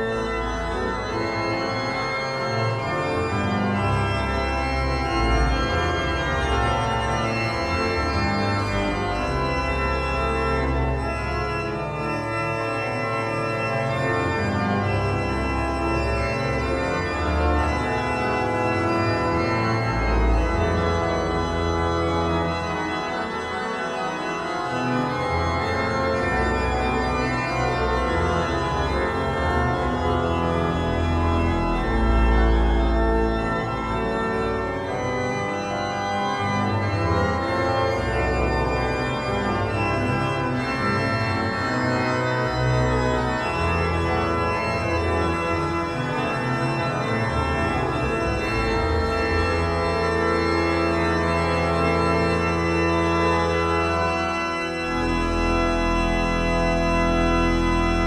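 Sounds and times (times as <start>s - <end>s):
pipe organ playing chords: 0.0s - 58.0s.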